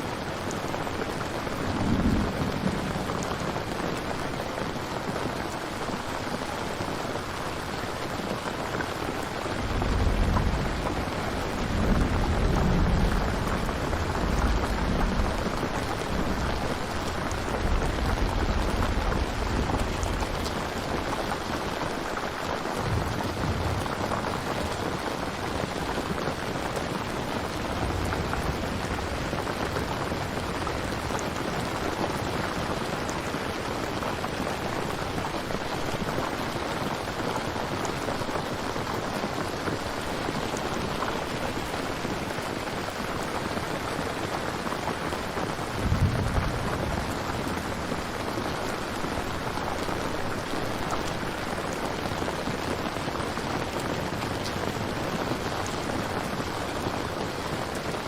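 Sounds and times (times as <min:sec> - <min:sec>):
heavy rain pattering: 0:00.0 - 0:58.0
thunder rumbling: 0:00.2 - 0:05.6, 0:08.8 - 0:35.8, 0:40.0 - 0:57.1.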